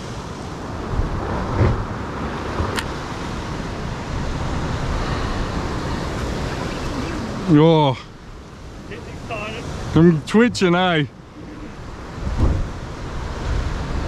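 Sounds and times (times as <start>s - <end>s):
ocean swell washing on rocks: 0.0s - 14.0s.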